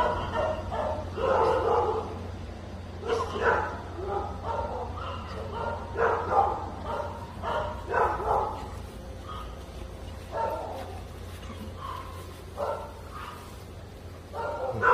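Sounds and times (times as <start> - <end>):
dog barking: 0.0 - 2.2, 3.0 - 14.9.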